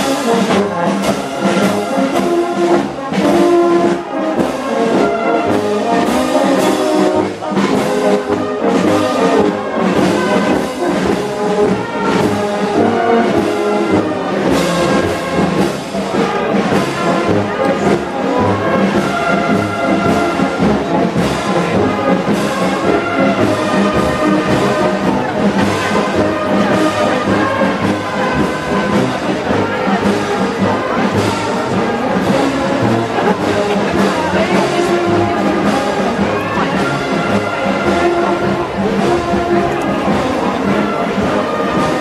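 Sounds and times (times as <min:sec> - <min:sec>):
brass music: 0:00.0 - 0:42.0.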